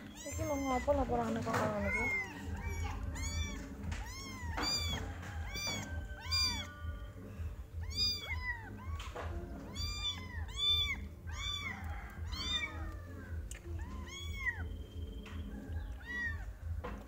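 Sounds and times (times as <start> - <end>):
kitten mewing: 0.0 - 7.0, 7.7 - 14.8, 15.8 - 16.5.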